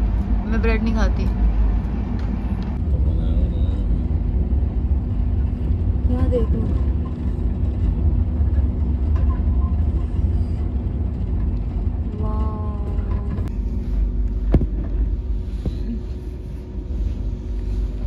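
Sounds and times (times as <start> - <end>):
constant hum: 0.0 - 18.0
train coach rumbling: 0.0 - 18.0.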